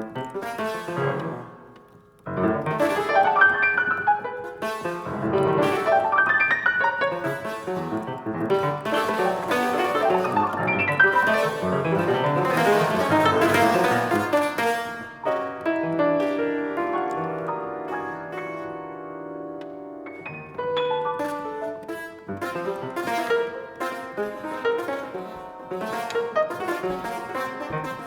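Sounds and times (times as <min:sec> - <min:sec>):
solo piano fast flurries: 0:02.3 - 0:28.0.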